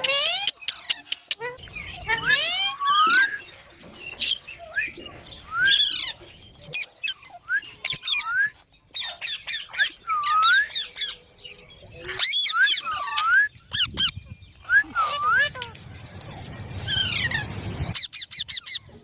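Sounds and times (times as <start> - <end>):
parrot chirps and squawks: 0.0 - 3.5, 4.2 - 11.3, 12.0 - 19.0.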